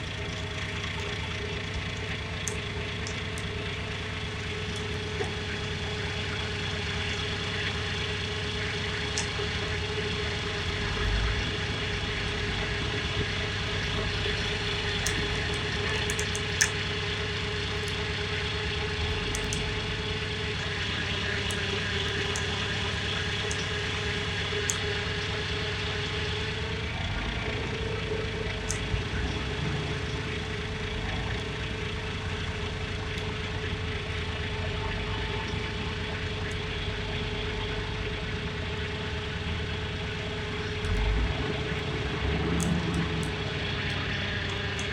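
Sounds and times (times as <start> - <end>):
constant tone: 0.0 - 44.9
truck engine running: 0.0 - 44.9.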